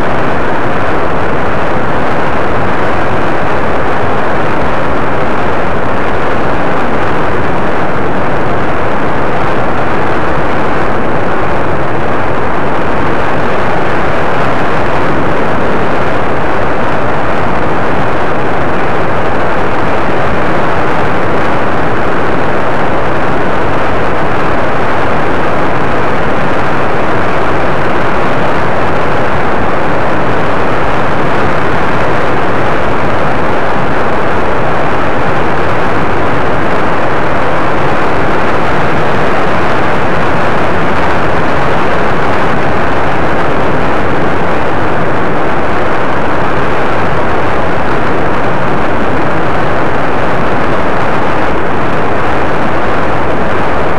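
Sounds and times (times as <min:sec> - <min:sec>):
paramotor engine in flight: 0:00.0 - 0:53.9.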